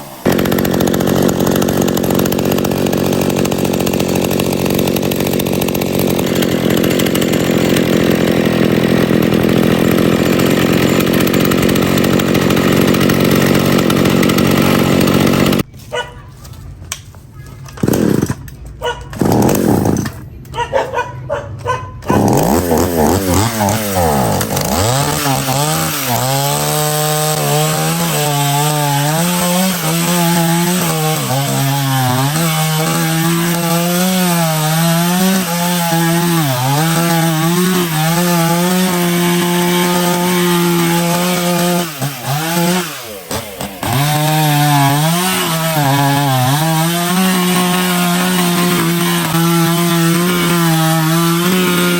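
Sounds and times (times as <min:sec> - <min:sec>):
chainsaw engine revving: 0:00.0 - 0:15.7, 0:17.8 - 0:18.5, 0:19.1 - 0:20.2, 0:22.0 - 0:51.9.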